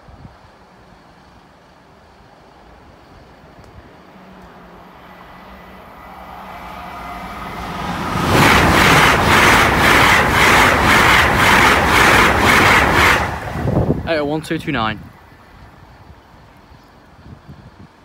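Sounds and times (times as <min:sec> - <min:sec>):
train passing at high speed: 0:00.0 - 0:16.4.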